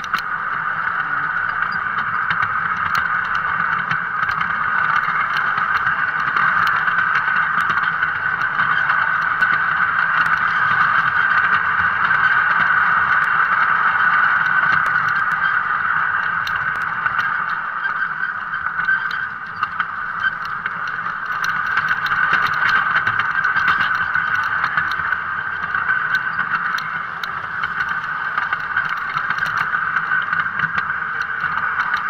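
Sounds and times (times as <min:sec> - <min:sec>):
model train wheels rolling: 0:00.0 - 0:32.0.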